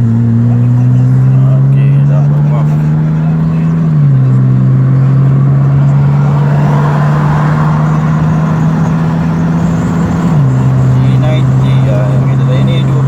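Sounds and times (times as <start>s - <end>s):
car exhaust droning: 0.0s - 13.0s.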